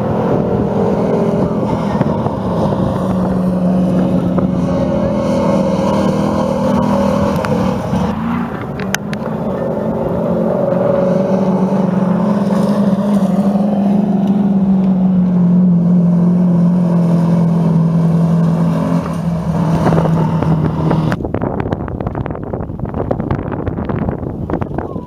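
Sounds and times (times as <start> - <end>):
wind on microphone: 0.0 - 15.2, 18.9 - 25.0
racing truck engines droning: 0.0 - 25.0.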